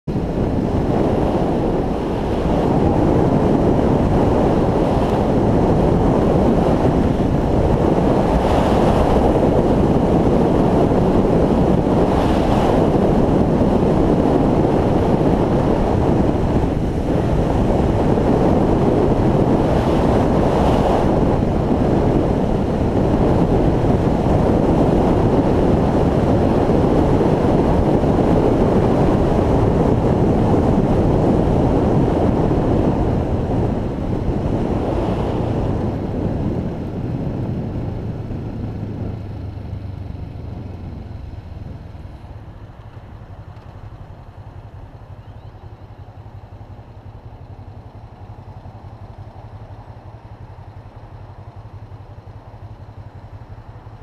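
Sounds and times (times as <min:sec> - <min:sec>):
road noise: 0:00.0 - 0:54.0
wind on microphone: 0:00.1 - 0:54.0.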